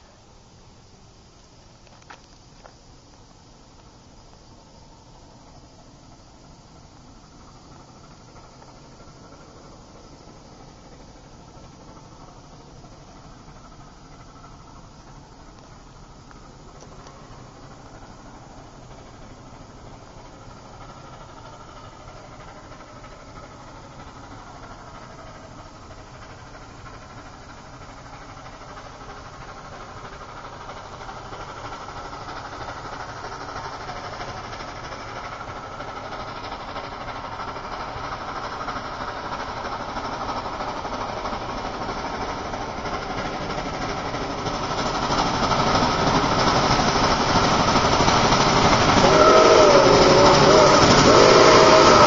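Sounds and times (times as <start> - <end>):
steam locomotive exhaust beat: 0.0 - 52.0.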